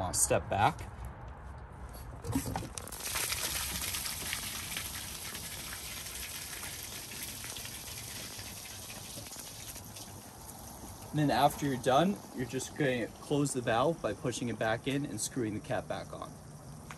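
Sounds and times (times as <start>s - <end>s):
water gushing onto asphalt: 2.3s - 16.9s.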